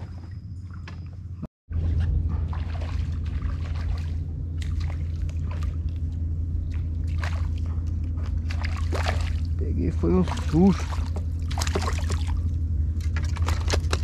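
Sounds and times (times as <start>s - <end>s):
steady low hum: 0.0s - 14.0s
water splashing and trickling: 1.8s - 14.0s.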